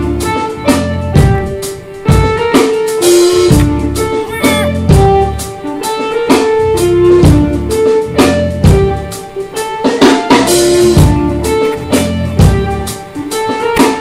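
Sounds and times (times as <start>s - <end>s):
guitar and drum band music: 0.0s - 14.0s.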